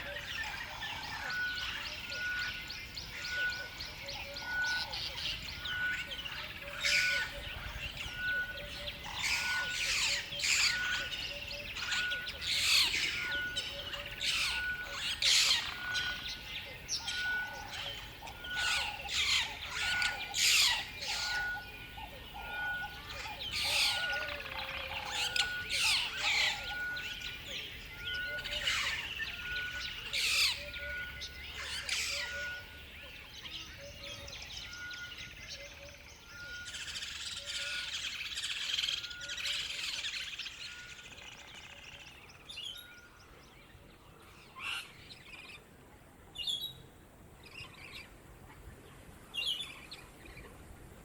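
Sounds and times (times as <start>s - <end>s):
wild birds chirping: 0.0s - 51.0s.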